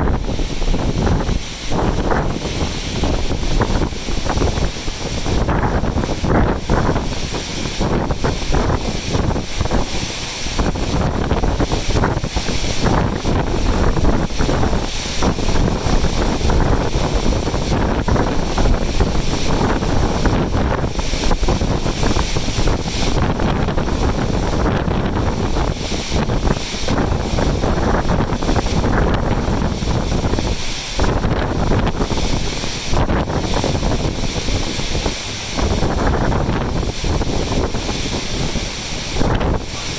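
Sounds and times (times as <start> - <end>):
gusty wind buffeting microphone: 0.0 - 39.9
heavy surf breaking on rocks: 0.0 - 39.9.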